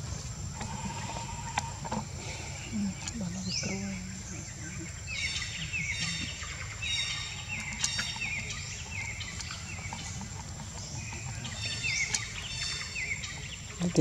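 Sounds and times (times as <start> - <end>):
bird chirping: 0.1 - 14.0.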